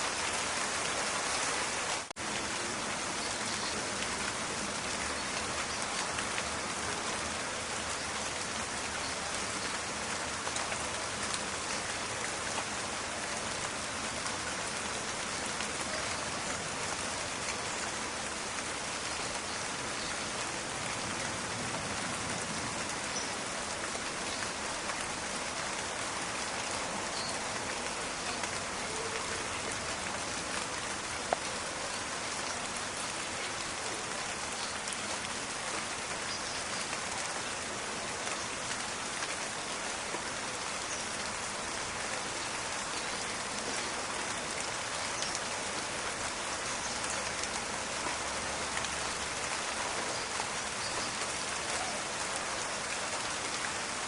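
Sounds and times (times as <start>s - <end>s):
rain on leaves: 0.0s - 54.0s.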